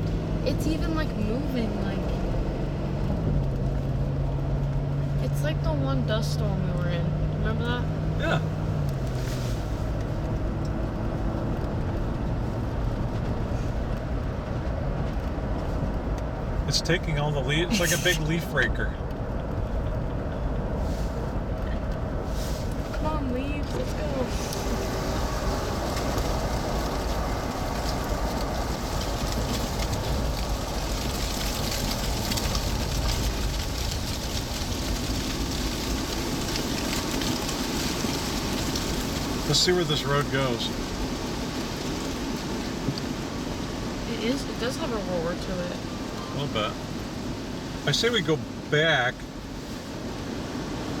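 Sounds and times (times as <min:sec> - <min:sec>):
vehicle interior rumble: 0:00.0 - 0:51.0.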